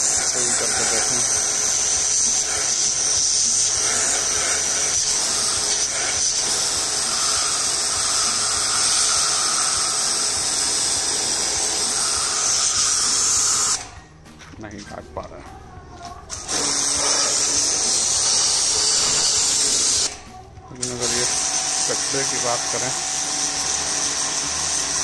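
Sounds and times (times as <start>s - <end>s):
pressure washer jet hissing: 0.0s - 14.0s, 16.3s - 25.0s.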